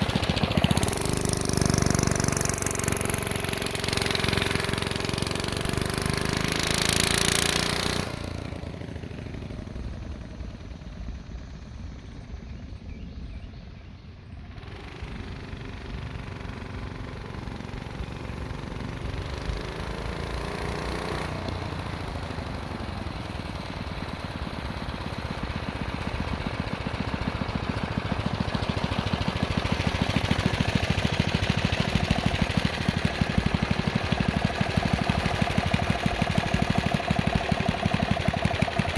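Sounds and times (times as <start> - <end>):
mini bike engine running: 0.0 - 12.6, 14.4 - 38.9.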